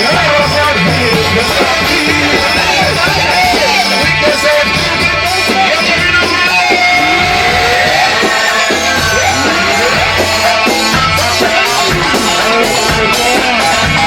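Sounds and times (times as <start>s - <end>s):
melodic lead line with pitch glides: 0.0s - 14.0s
wedding band music: 0.0s - 14.0s.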